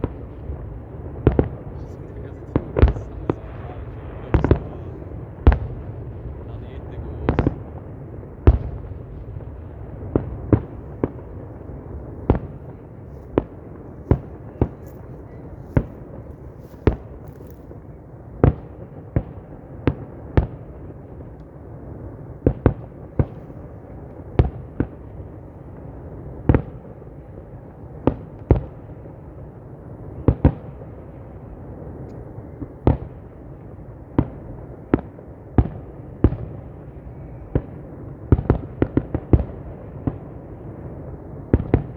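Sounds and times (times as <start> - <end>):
background rumble: 0.0 - 41.9
fireworks bursting: 1.1 - 41.9.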